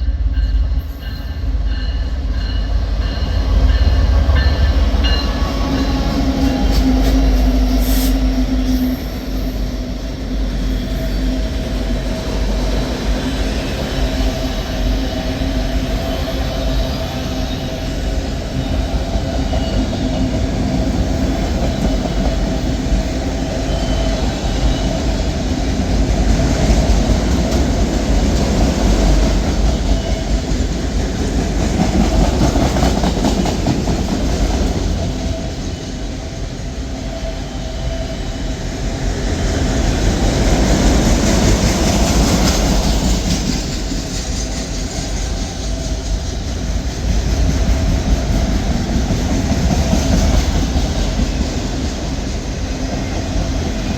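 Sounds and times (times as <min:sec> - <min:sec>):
freight train wheels rumbling: 0:00.0 - 0:53.9.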